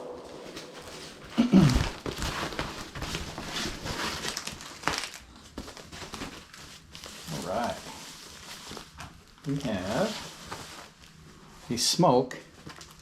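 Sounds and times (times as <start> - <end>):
plastic packaging crinkling: 0.0 - 11.8, 12.4 - 13.0.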